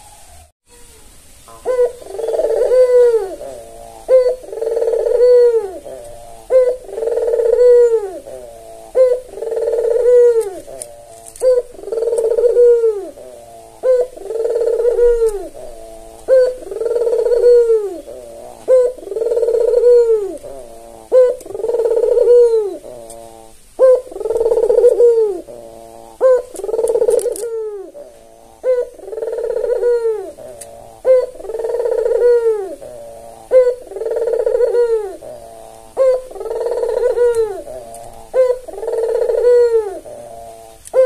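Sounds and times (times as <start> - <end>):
dove cooing: 0.0 - 41.0.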